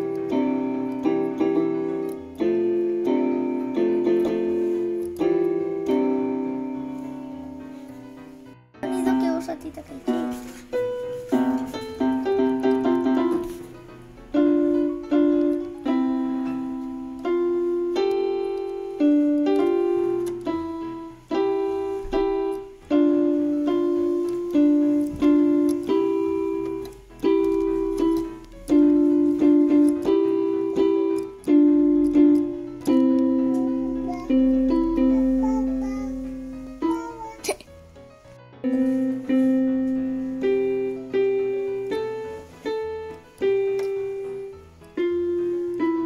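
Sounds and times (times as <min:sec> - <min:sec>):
keyboard playing slow tune: 0:00.0 - 0:46.0.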